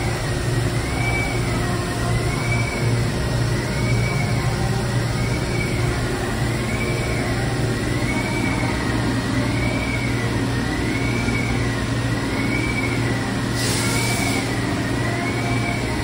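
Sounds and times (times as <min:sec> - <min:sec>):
machine tool low hum: 0:00.0 - 0:16.0
wavering high tone: 0:00.8 - 0:16.0.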